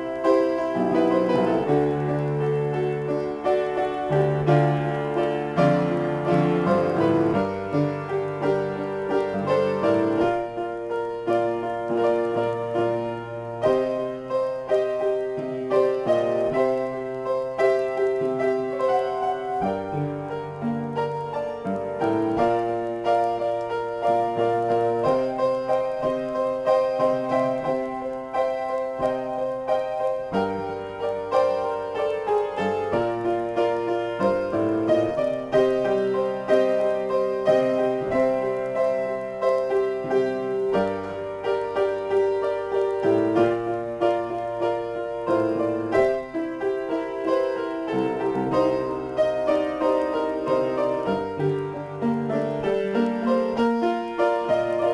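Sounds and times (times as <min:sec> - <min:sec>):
upright piano improvisation: 0:00.0 - 0:54.9.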